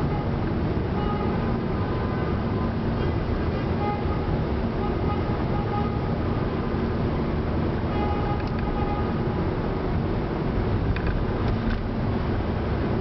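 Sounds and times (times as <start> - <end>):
car and tyre rumble in tunnel: 0.0 - 13.0.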